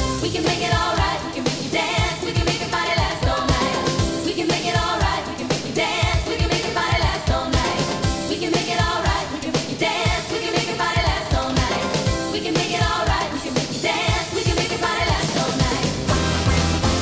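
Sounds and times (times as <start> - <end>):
driving kick drum beat: 0.0 - 17.0
live dance-pop music: 0.0 - 17.0
sung vocals: 0.0 - 17.0.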